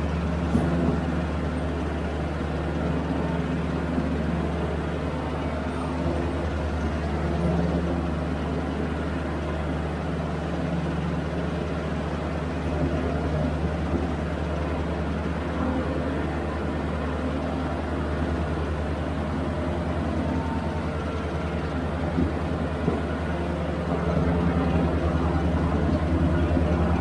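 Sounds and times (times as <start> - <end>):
ride-on mower diesel engine running: 0.0 - 27.0.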